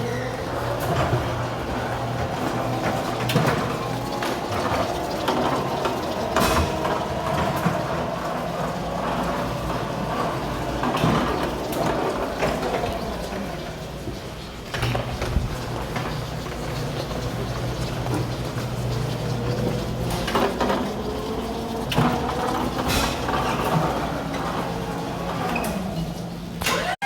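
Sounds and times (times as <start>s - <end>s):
forklift engine hum: 0.0s - 27.0s
garage door rattles and clanks: 0.0s - 27.0s.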